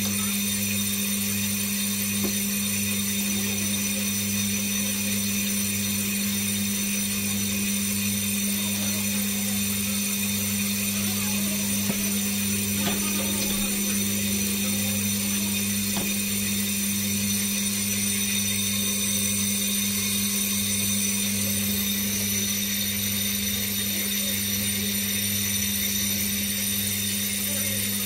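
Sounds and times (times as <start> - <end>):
brake lathe motor hum: 0.0 - 28.0
thin high ringing: 0.1 - 27.8.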